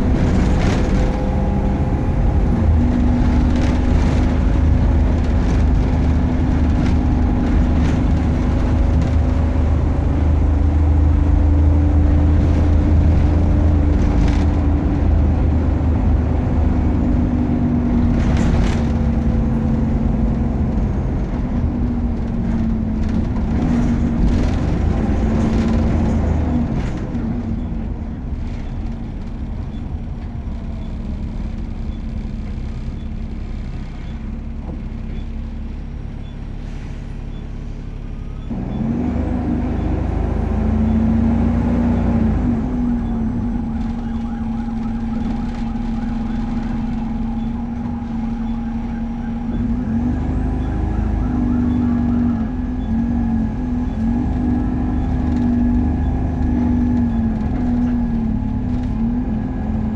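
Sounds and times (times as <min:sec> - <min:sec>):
bus engine rumble and whine: 0:00.0 - 0:59.9.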